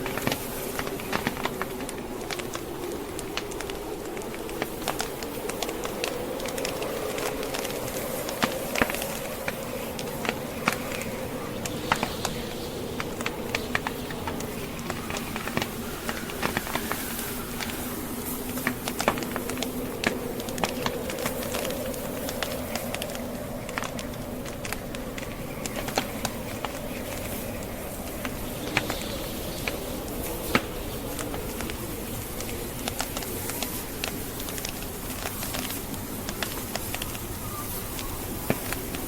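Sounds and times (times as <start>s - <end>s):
howling blizzard wind: 0.0s - 39.0s
wood fire crackling and popping: 0.0s - 39.0s.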